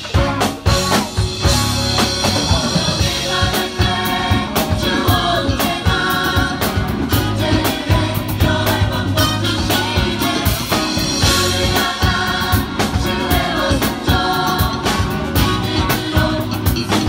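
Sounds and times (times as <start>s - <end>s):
bass guitar: 0.0s - 17.0s
drum kit hits: 0.0s - 17.0s
choir singing gospel: 1.4s - 17.0s.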